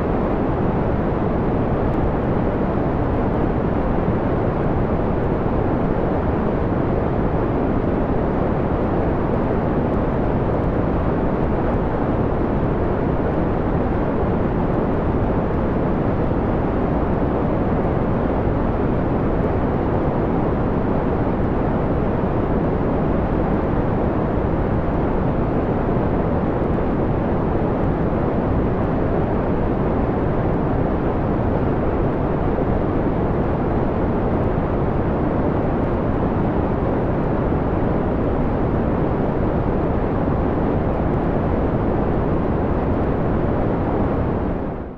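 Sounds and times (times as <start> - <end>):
filtered white noise: 0.0 - 44.9.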